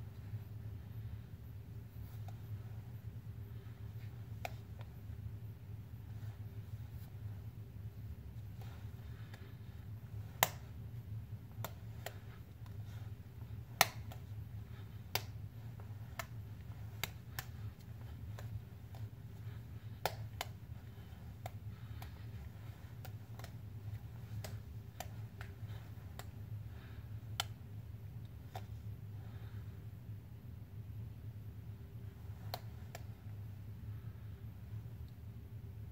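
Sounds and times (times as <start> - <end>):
low room hum: 0.0 - 35.9.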